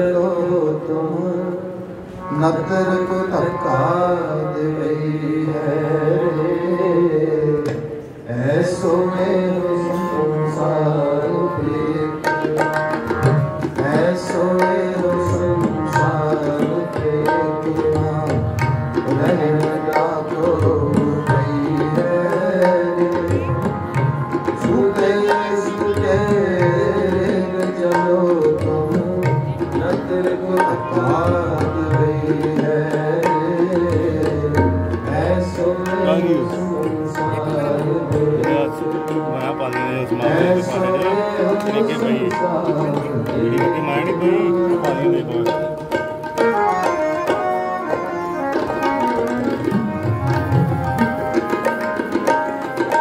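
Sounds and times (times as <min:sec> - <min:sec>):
harmonium: 0:00.0 - 0:53.0
tabla strokes: 0:00.0 - 0:53.0.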